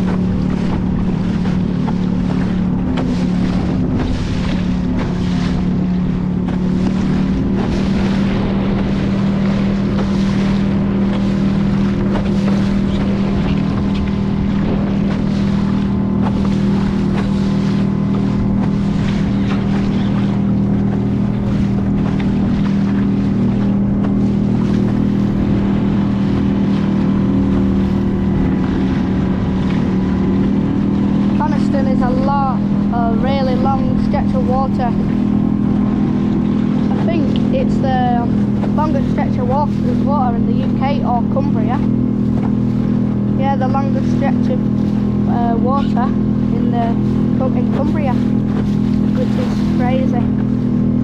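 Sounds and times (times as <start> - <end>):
motorboat engine running: 0.0 - 51.0
water washing against hull: 0.0 - 51.0
wind buffeting microphone: 0.0 - 51.0.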